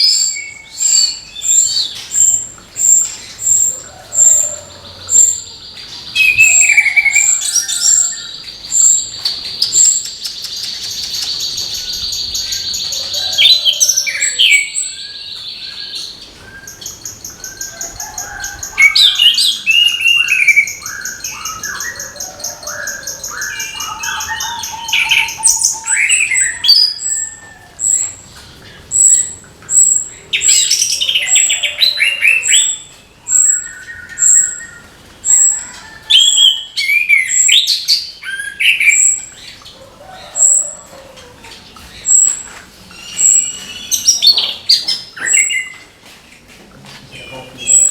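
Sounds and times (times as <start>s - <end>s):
high bird trills: 0.0s - 39.4s.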